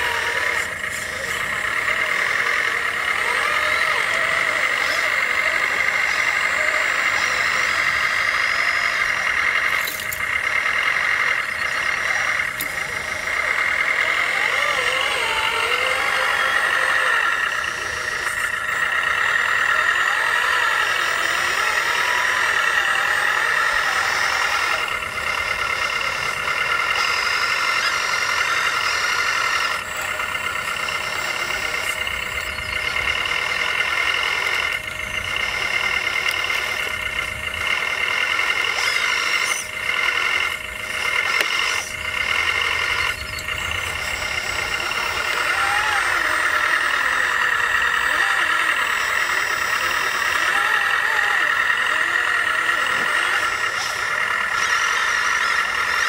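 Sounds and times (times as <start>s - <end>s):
small motors whining: 0.0s - 56.0s.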